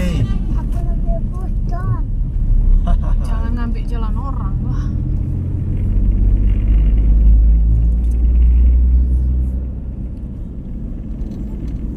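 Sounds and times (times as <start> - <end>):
vehicle driving on road: 0.0 - 11.9.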